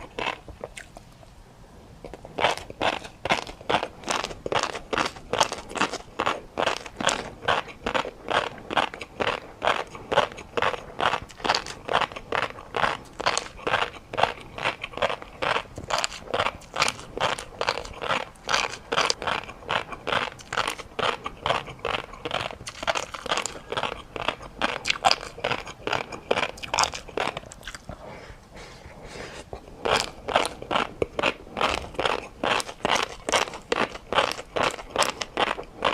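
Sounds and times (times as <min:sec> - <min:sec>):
person chewing crunchy food: 0:00.0 - 0:01.3, 0:02.0 - 0:35.9.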